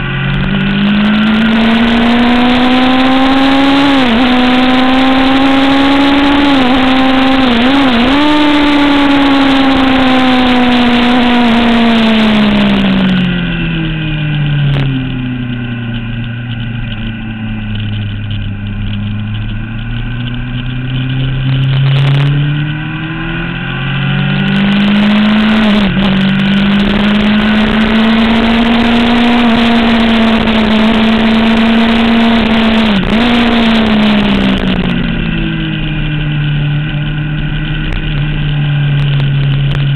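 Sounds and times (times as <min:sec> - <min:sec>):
motorcycle engine at high revs: 0:00.0 - 0:39.9
wind noise: 0:00.0 - 0:39.9.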